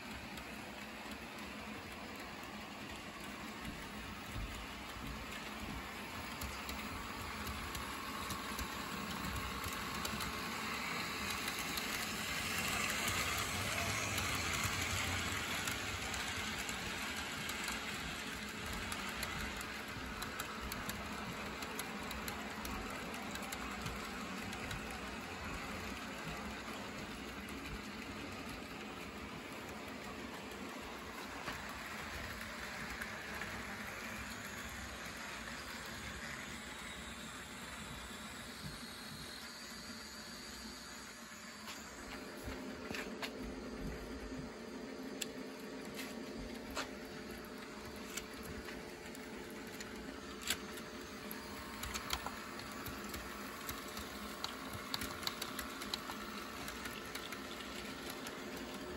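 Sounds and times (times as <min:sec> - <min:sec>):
wheels clicking over rail joints: 0:00.0 - 0:40.7, 0:45.0 - 0:58.9
model train motors whirring: 0:00.0 - 0:58.9.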